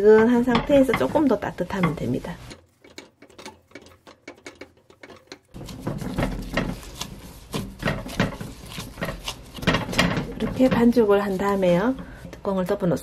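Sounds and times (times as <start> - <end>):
gloved hand kneading dough: 0.0 - 13.0.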